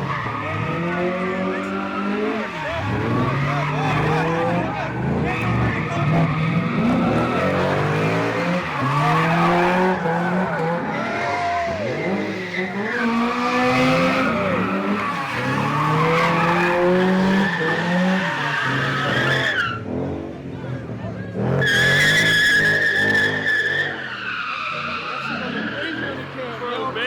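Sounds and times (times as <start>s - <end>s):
car engine revving hard: 0.0s - 24.0s
tires screeching: 0.0s - 27.0s.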